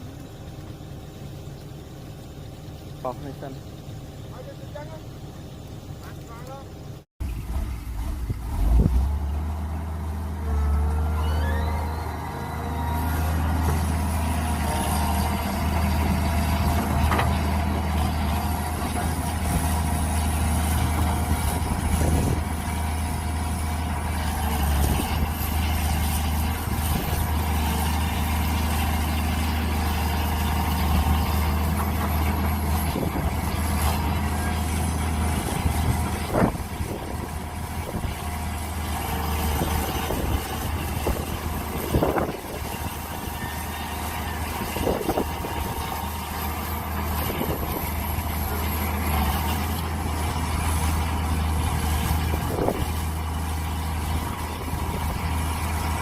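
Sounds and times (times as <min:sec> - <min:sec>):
mini excavator engine running: 0:00.0 - 0:56.0.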